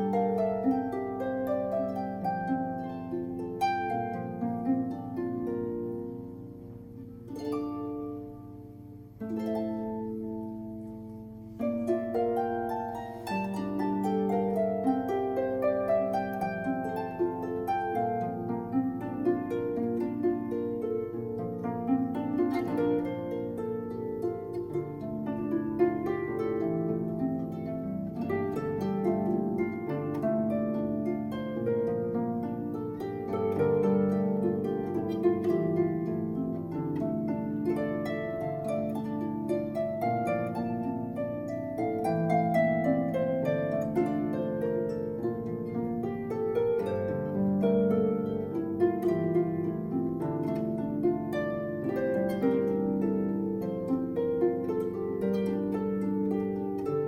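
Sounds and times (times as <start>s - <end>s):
solo harp playing: 0.0s - 57.0s.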